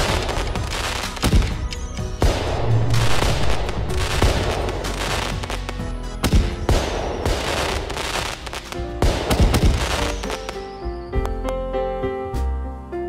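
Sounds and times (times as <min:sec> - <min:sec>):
fireworks bangs and crackling: 0:00.0 - 0:11.0
background music: 0:00.0 - 0:13.0.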